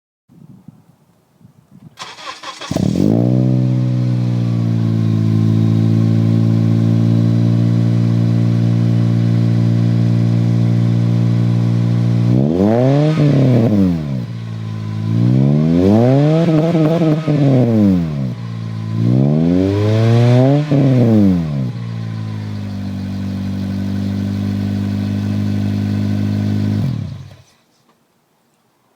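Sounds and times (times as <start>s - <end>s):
car engine starting and revving: 2.0s - 27.5s.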